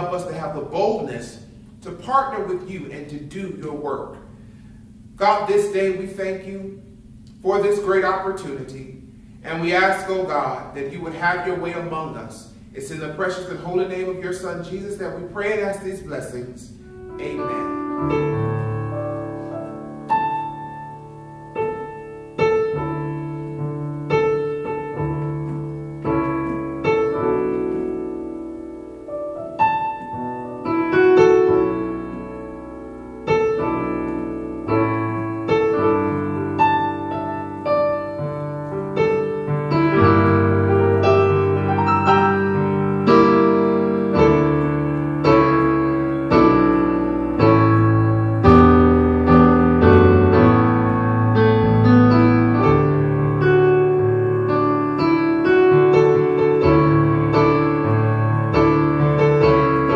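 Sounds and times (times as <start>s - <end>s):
solo piano chords: 0.0s - 59.9s.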